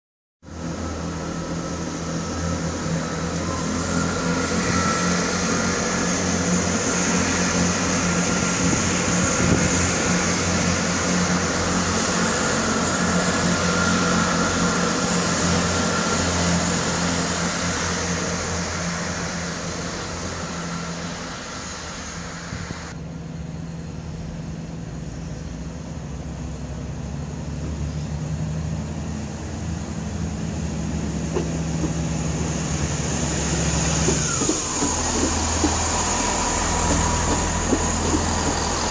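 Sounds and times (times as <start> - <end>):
train engine hum: 0.4 - 38.9
train rushing noise: 0.4 - 38.9.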